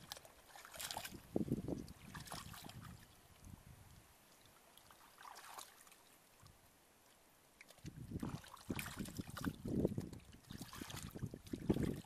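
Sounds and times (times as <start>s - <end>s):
muddy water splashing: 0.0s - 3.5s, 4.3s - 6.6s, 7.6s - 12.0s.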